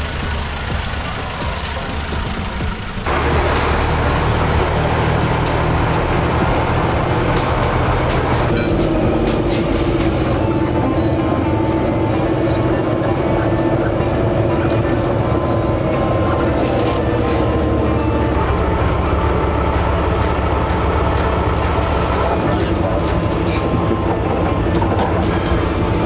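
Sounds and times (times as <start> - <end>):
diesel engine running: 0.0 - 26.0
steady whine: 0.0 - 26.0.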